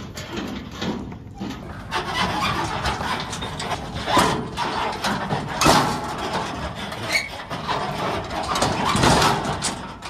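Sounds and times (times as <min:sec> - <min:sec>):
metal trailer rattling and clanking: 0:00.0 - 0:10.0.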